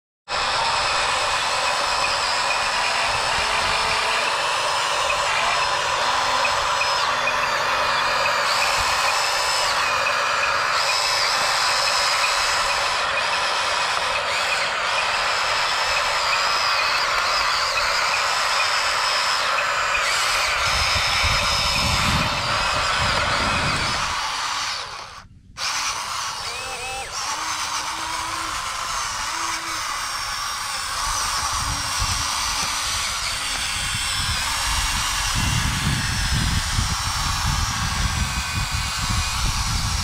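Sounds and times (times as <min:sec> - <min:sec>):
small electric motors whining: 0:00.3 - 0:40.0.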